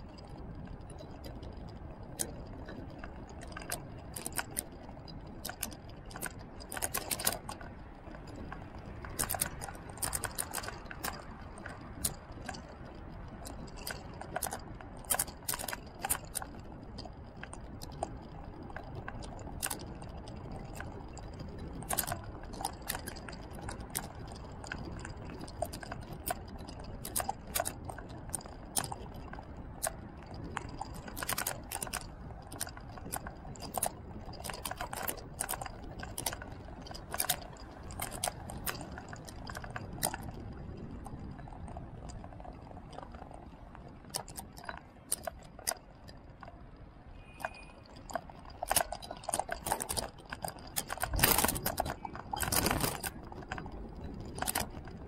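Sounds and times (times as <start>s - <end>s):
road noise rumble: 0.0s - 55.0s
small clicks and rattles: 0.0s - 55.0s.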